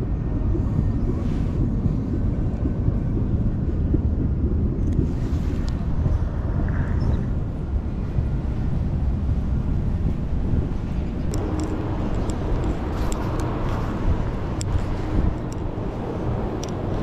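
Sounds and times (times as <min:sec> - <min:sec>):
low rumble of city traffic: 0:00.0 - 0:17.0.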